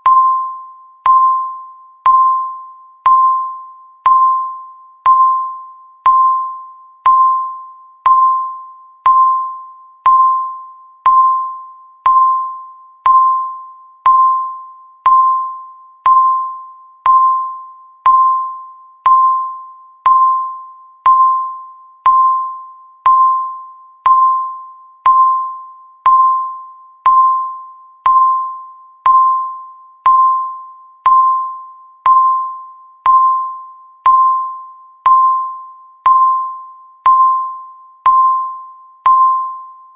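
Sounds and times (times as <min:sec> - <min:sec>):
timer ticking ping: 0:00.0 - 0:39.8.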